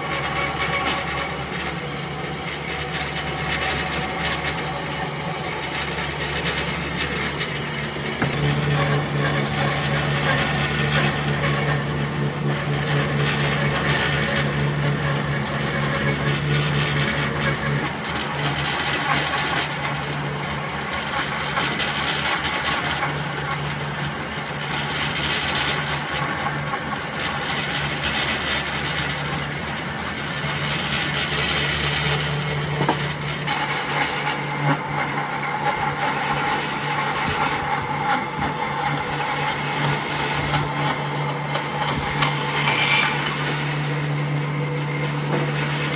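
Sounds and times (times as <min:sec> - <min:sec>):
high steady whine: 0:00.0 - 0:45.9
power tool grinding wood: 0:00.0 - 0:45.9.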